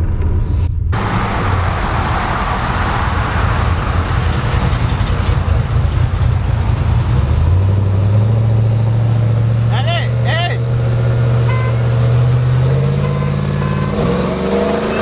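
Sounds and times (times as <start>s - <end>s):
road and wind noise: 0.9s - 15.0s
truck engine rumbling: 1.0s - 15.0s.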